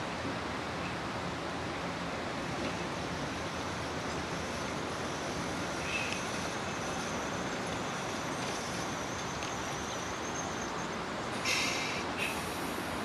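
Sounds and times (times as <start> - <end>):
streetcar rolling: 0.0 - 13.0.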